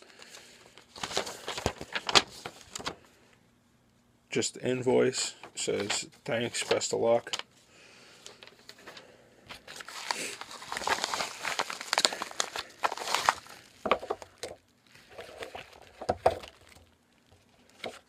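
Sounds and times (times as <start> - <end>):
paper rustling and crinkling: 0.0 - 3.1, 5.3 - 7.4, 8.3 - 18.0.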